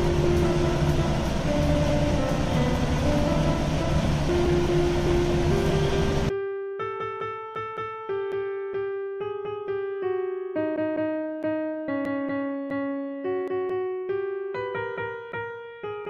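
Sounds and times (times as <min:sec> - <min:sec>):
slow keyboard melody over chords: 0:00.0 - 0:16.0.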